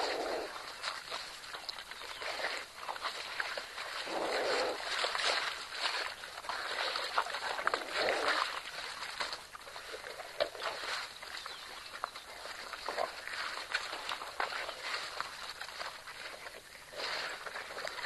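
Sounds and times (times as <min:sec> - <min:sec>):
animals tearing at carcass: 0:00.0 - 0:18.0.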